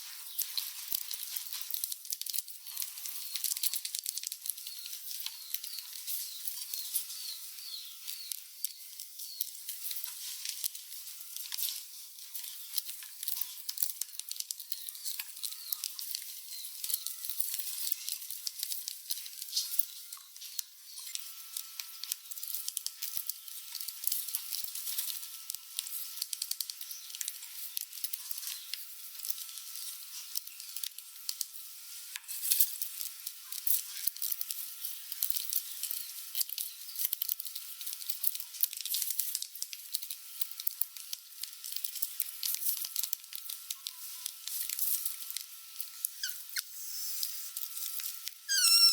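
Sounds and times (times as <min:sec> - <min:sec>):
rats gnawing and scrabbling: 0:00.0 - 0:48.9.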